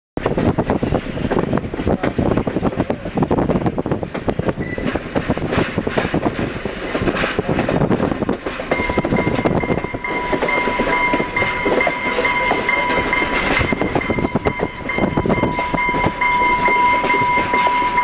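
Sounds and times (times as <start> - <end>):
railcar wheels clattering on track: 0.2 - 18.0
road and wind noise: 0.2 - 18.0.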